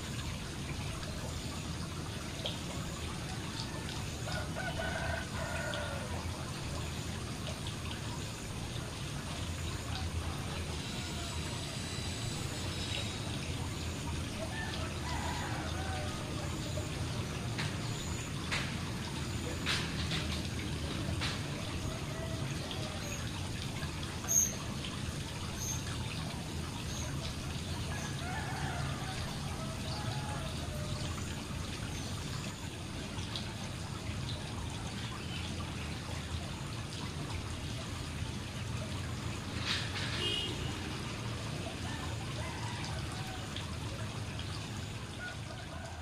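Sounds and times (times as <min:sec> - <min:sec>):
fountain splashing into pond: 0:00.0 - 0:46.0.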